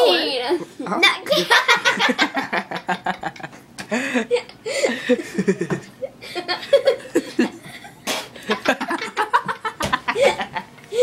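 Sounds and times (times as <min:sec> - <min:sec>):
people laughing and giggling: 0:00.6 - 0:11.0.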